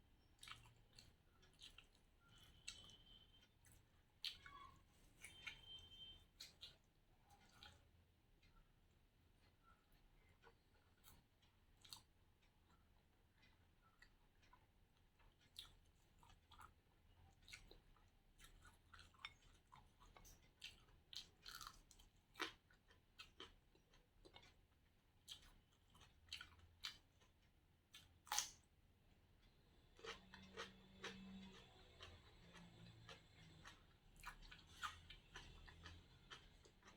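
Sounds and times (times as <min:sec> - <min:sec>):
person chewing food: 0:00.2 - 0:36.9.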